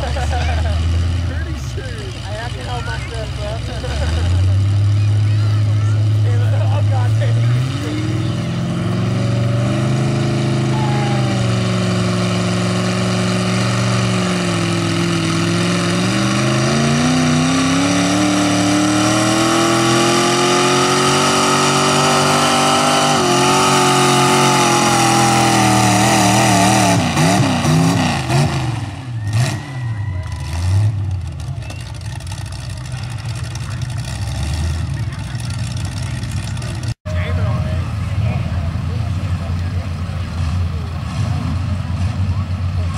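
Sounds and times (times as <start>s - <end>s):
truck engine at full throttle: 0.0s - 42.9s.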